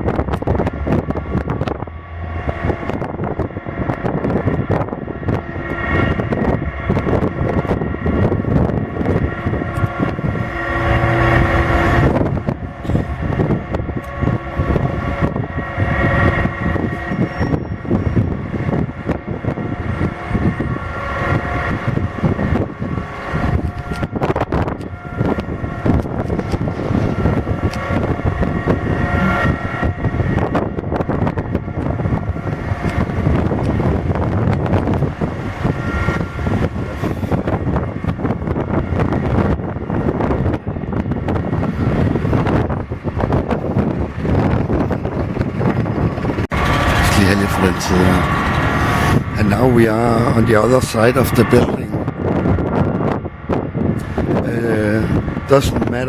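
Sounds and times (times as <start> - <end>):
loud droning hum: 0.0 - 56.0
wind buffeting microphone: 0.0 - 56.0.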